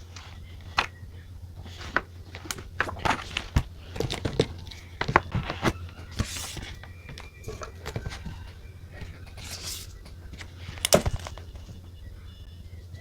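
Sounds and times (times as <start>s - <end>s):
paper rustling: 0.0s - 11.8s.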